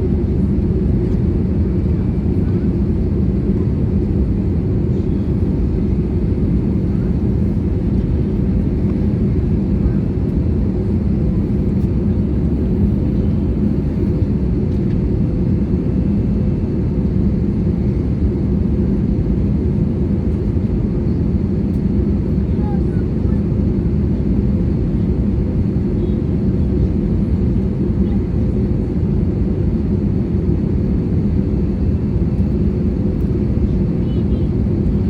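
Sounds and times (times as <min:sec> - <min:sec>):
airplane cabin rumble: 0:00.0 - 0:35.0.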